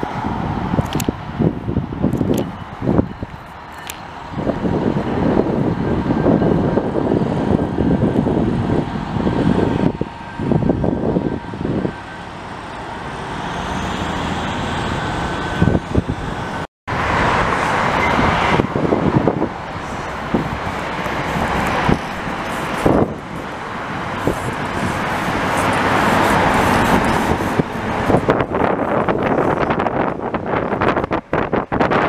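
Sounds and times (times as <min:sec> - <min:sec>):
highway traffic passing: 0:00.0 - 0:32.0.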